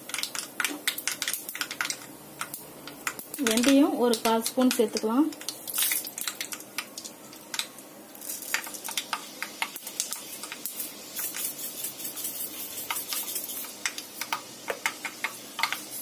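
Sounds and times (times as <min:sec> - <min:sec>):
seeds sizzling in hot oil: 0:00.0 - 0:16.0.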